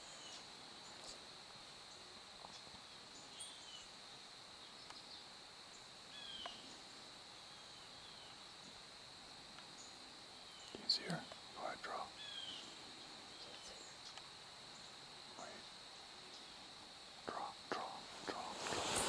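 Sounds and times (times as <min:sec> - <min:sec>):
faint bird chirps: 0:00.0 - 0:08.8, 0:09.7 - 0:19.0
insect chorus trilling: 0:00.0 - 0:19.0.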